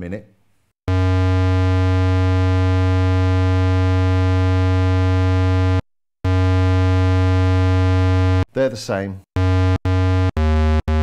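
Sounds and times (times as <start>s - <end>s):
low square-wave synth note: 0.9s - 8.5s, 9.4s - 11.0s.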